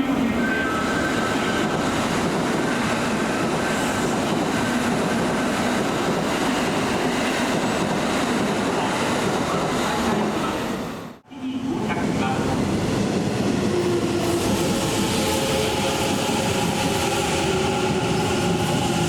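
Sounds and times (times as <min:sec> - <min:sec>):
train wheels on rails: 0:00.7 - 0:19.0.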